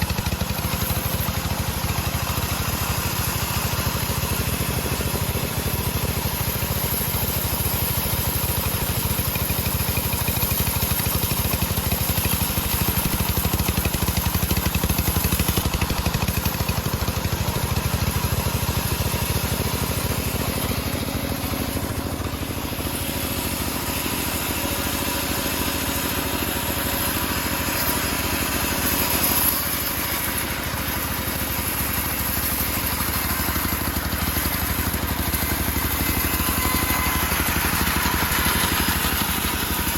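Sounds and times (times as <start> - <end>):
bandsaw cutting wood: 0.0 - 39.9.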